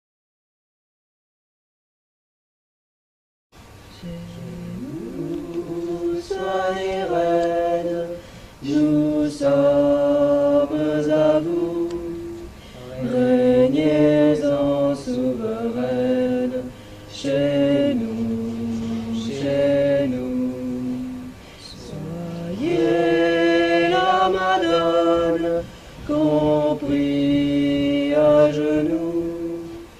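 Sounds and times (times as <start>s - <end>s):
voices singing slow song: 3.6s - 29.9s
steady low drone: 3.9s - 29.9s.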